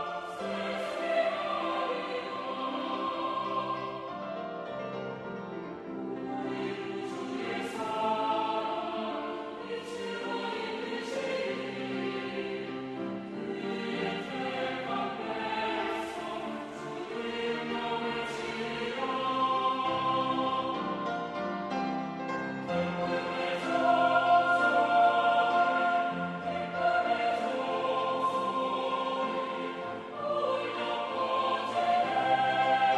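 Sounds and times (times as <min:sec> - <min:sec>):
church choir singing: 0:00.0 - 0:32.9.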